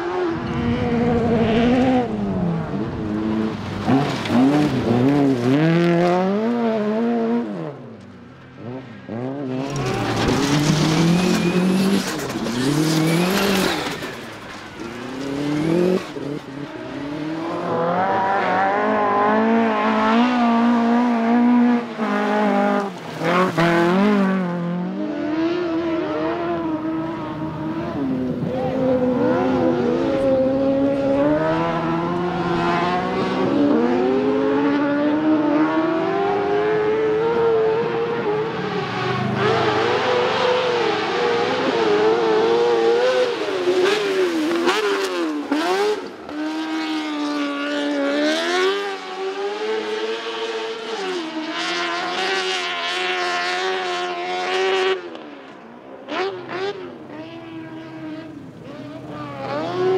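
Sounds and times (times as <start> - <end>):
buggy engines revving: 0.0 - 59.9.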